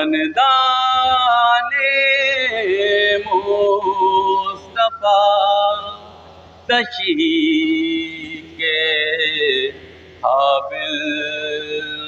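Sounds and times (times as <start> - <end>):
man singing a lament: 0.0 - 6.1, 6.7 - 12.0.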